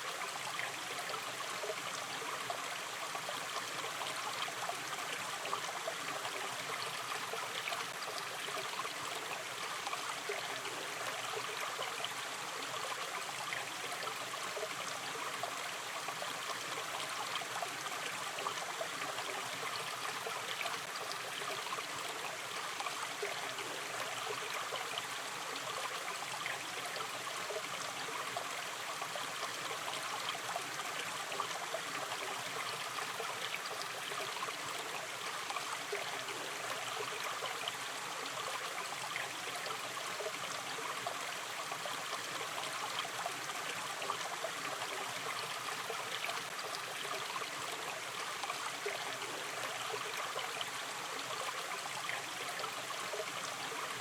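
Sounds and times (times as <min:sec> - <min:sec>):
stream flowing: 0:00.0 - 0:54.0
water trickling and gurgling: 0:00.0 - 0:54.0.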